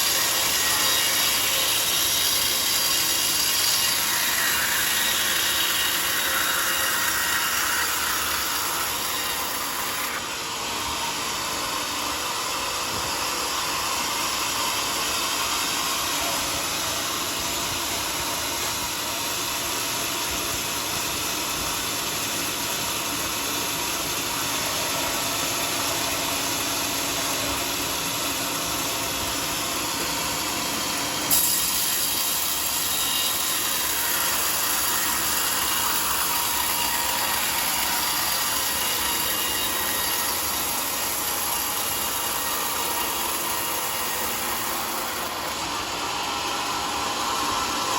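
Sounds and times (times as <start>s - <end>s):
bandsaw sawmill running: 0.0s - 47.9s.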